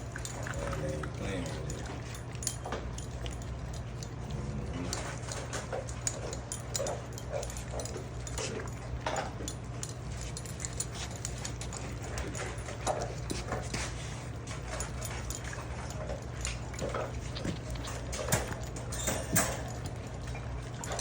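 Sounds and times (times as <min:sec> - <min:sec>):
puppies chewing and lapping: 0:00.0 - 0:21.0.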